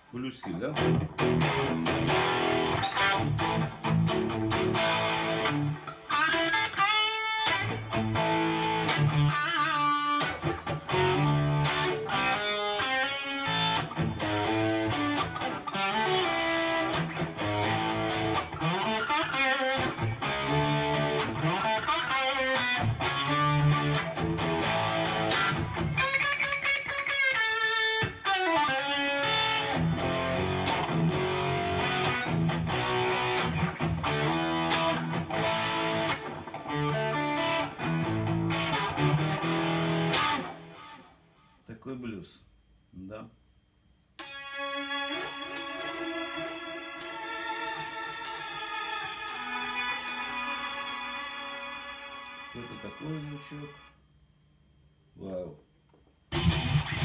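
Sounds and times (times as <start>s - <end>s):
electric guitar lead lines: 0.0s - 42.2s, 44.2s - 54.0s, 55.1s - 57.0s.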